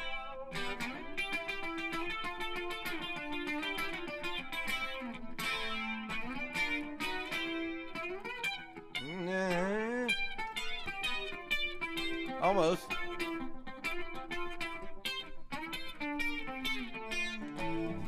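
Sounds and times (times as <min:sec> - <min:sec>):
guitar playing: 0:00.0 - 0:18.0.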